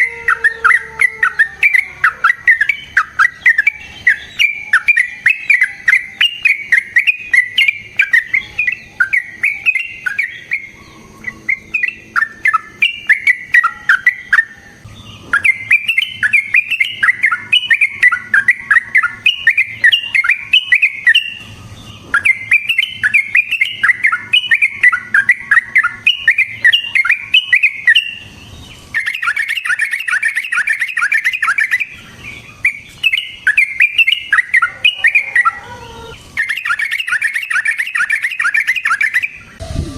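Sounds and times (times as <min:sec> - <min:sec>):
bulbul bubbly chattering song: 0:00.0 - 0:14.5, 0:15.2 - 0:21.4, 0:22.0 - 0:39.9.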